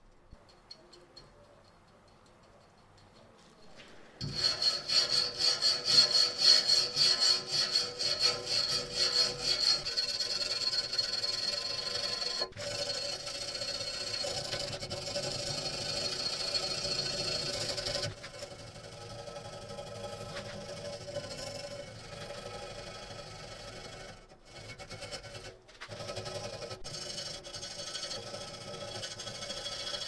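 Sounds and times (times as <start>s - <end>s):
sander grinding a surface: 3.6s - 30.0s.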